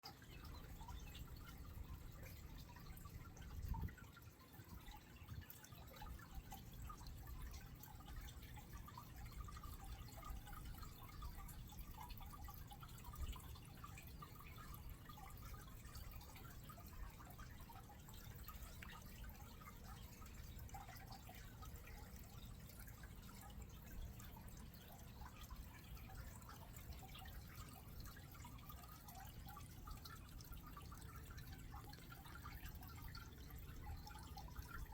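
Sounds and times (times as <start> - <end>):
water trickling and dripping: 0.0 - 34.9.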